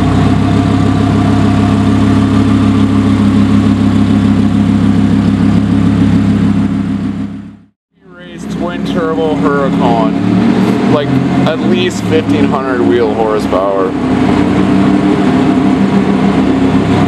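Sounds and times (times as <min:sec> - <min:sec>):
sports car engine idling: 0:00.0 - 0:17.0.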